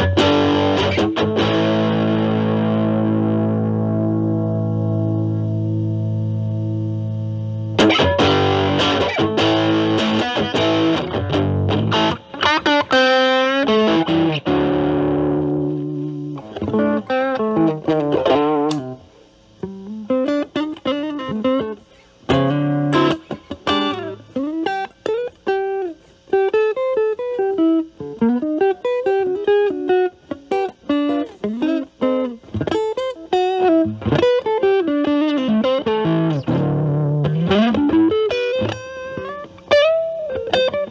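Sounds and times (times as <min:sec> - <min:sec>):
lightly distorted electric guitar: 0:00.0 - 0:40.9.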